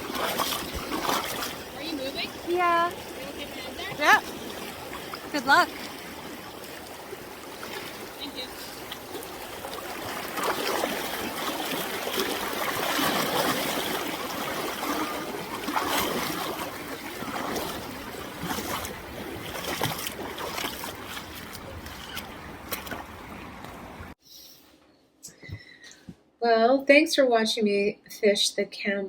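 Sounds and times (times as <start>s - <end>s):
river water rushing and splashing: 0.0s - 24.2s.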